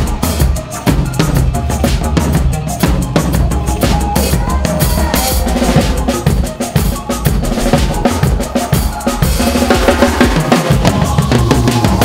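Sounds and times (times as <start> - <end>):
acoustic drum kit groove: 0.0 - 12.0
backing track: 0.0 - 12.0.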